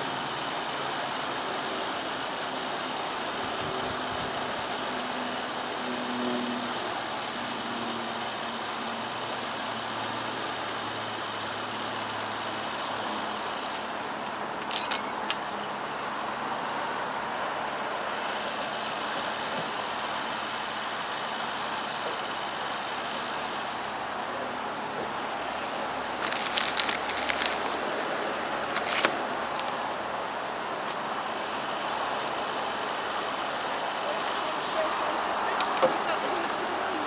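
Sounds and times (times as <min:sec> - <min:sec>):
boat engine drone: 0:00.0 - 0:37.0.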